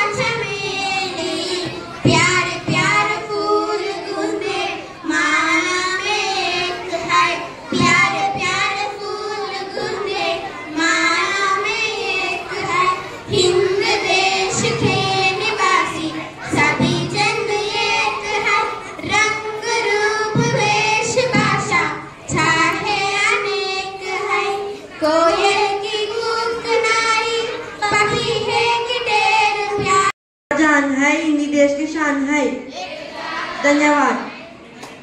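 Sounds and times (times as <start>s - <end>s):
girls singing together: 0.0s - 30.1s, 32.6s - 35.0s.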